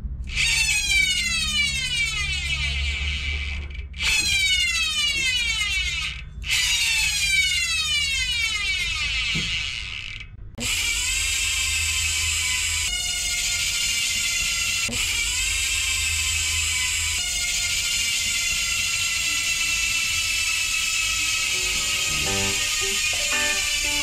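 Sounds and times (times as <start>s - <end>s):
bicycle freehub ratchet buzzing: 0.4s - 24.0s.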